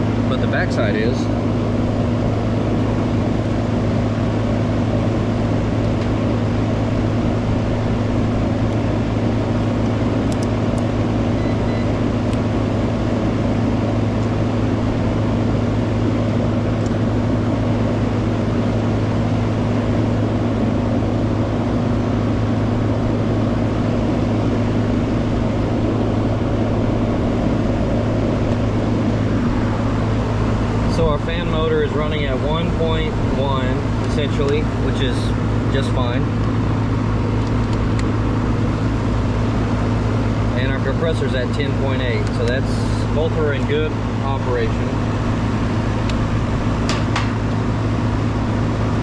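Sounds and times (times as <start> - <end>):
compressor electrical hum: 0.0 - 49.0
condenser fan whoosh: 0.0 - 49.0.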